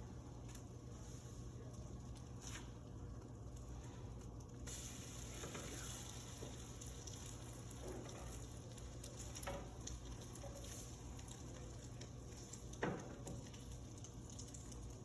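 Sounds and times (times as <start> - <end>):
bread sizzling in frying pan: 0.1 - 15.0.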